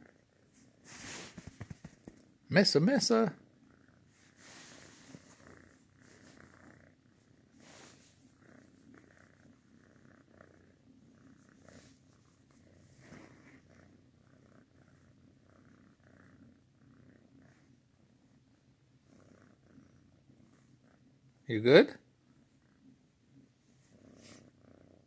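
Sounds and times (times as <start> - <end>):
cat purring faintly: 0.0 - 25.0.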